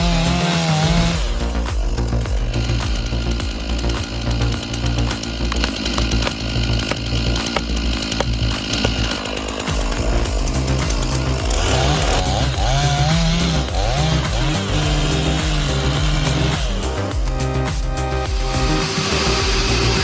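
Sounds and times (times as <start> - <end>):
background music with beat: 0.0 - 20.0
chainsaw engine revving: 0.0 - 20.0.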